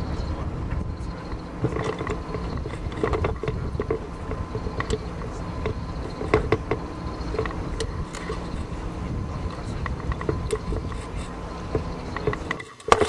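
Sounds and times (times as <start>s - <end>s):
boat engine rumble: 0.0s - 13.0s
dive gear knocking and clicking: 1.3s - 8.8s, 9.4s - 13.0s.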